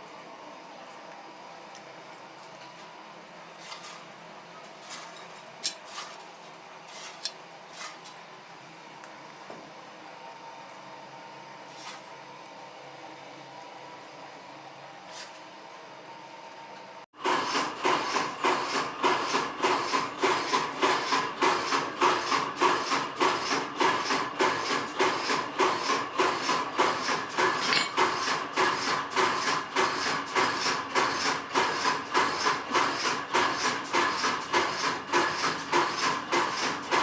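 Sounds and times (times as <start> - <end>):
mechanical hum: 0.0 - 37.0.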